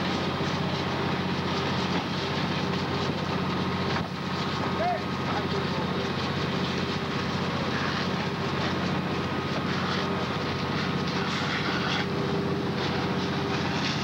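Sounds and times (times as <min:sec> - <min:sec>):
hose streams spraying water: 0:00.0 - 0:14.0
pump engine drone: 0:00.0 - 0:14.0.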